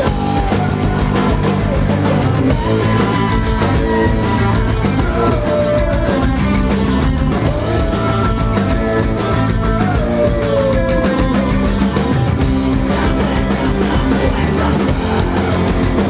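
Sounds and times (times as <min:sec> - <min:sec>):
electric guitar bending notes: 0:00.0 - 0:16.0
rock band playing live: 0:00.0 - 0:16.0.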